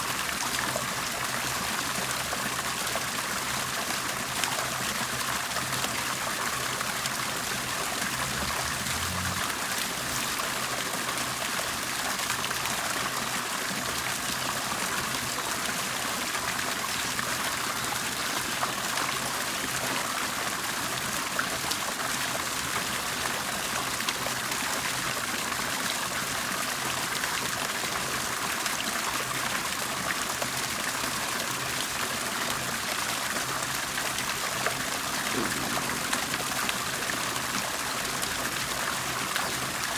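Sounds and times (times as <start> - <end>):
water bubbling and trickling: 0.0 - 39.9.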